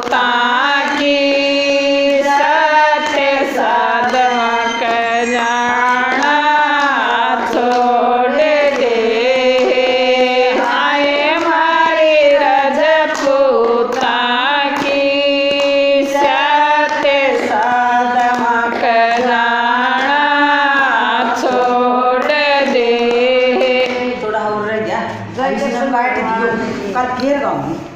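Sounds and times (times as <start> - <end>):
hand claps: 0.0 - 24.3
women singing devotional song: 0.0 - 27.9.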